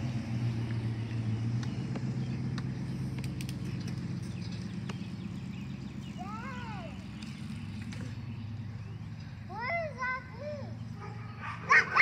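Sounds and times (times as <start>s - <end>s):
truck engine driving past: 0.0s - 12.0s.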